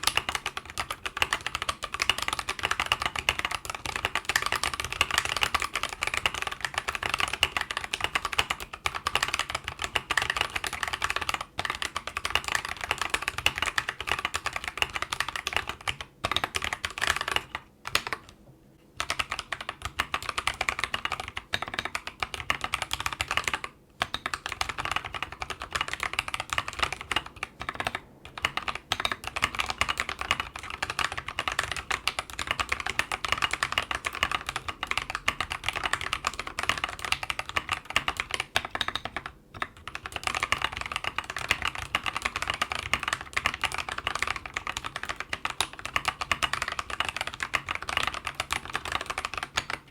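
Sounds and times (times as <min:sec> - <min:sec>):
mechanical keyboard typing: 0:00.0 - 0:18.4, 0:19.0 - 0:49.9.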